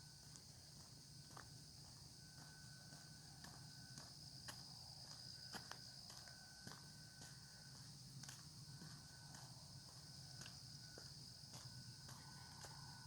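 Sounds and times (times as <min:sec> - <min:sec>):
crickets trilling: 0:00.0 - 0:13.0
low steady tone: 0:00.0 - 0:13.0
light footsteps: 0:00.2 - 0:13.0.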